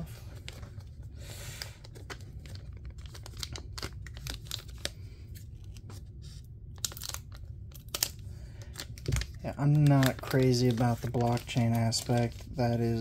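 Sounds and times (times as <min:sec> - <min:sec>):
cards and packaging rustling: 0:00.0 - 0:13.0
low steady hum: 0:00.0 - 0:13.0.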